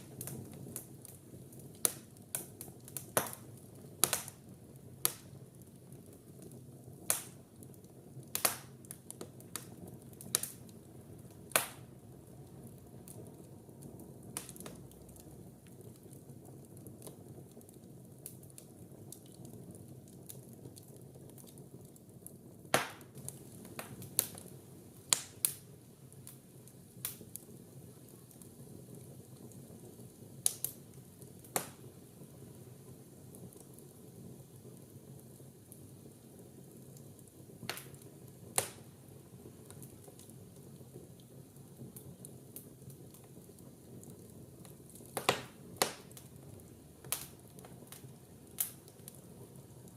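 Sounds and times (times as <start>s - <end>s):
fire hissing: 0.0s - 20.7s, 22.4s - 49.9s
logs crackling and popping: 0.0s - 49.9s.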